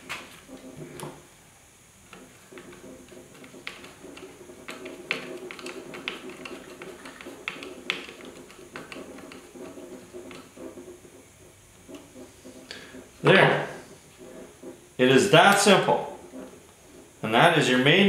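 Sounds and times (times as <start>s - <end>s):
low scraping rasp: 2.1s - 18.0s.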